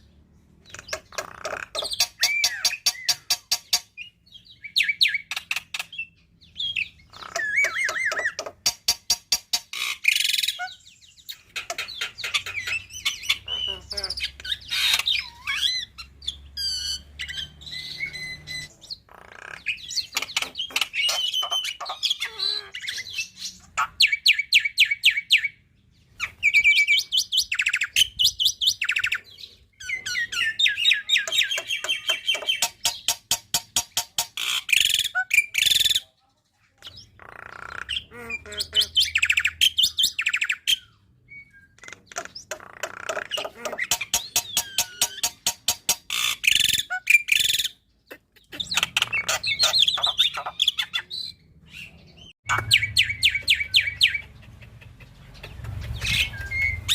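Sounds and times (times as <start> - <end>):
other bird calls: 0.0 - 36.2, 36.8 - 56.9.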